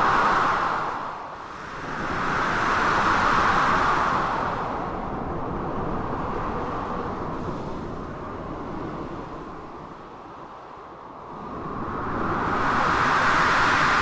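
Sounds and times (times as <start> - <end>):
blizzard wind: 0.0 - 14.0.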